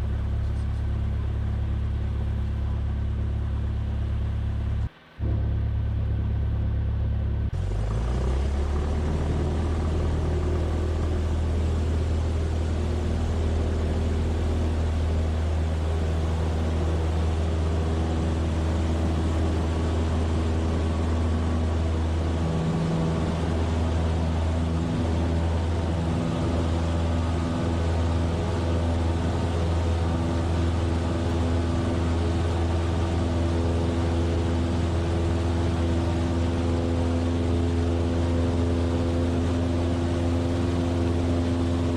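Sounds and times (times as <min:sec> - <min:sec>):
aircraft engine and propeller: 0:00.0 - 0:41.9.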